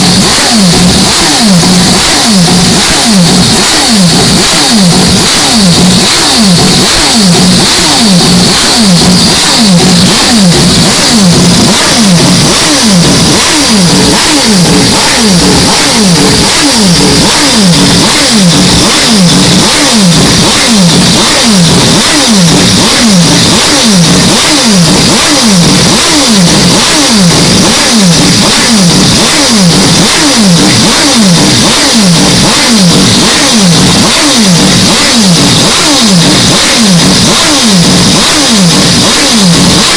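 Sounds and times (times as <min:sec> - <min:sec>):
distorted rotary engine: 0:00.0 - 0:39.9.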